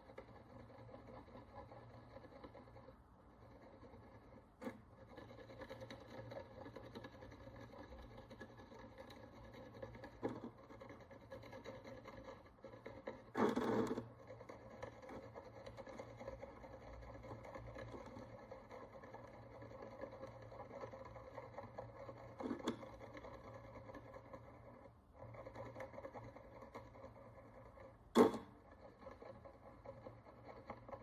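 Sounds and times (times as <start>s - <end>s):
small ticks: 0.0s - 31.0s.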